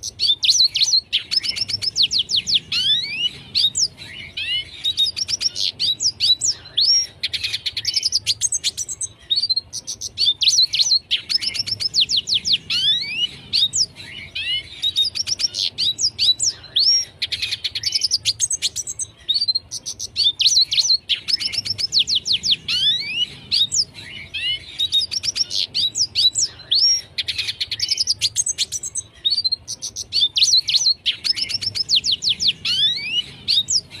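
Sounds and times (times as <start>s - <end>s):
bird singing twittering phrases: 0.0s - 34.0s.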